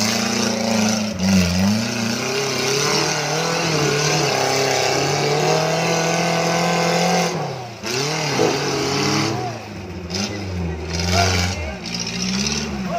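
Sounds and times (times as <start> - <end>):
buggy engine revving hard: 0.0 - 12.9.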